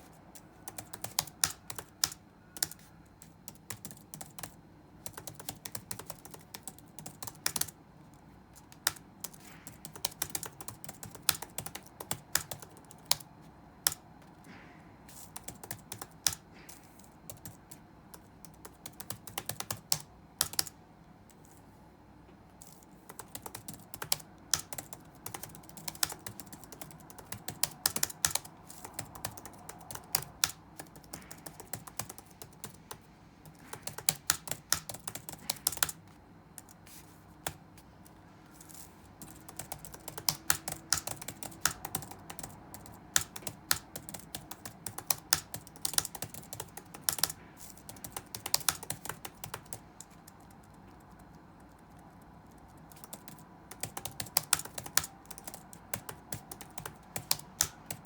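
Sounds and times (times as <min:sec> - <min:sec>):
keyboard typing: 0:00.3 - 0:20.8, 0:22.6 - 0:58.0.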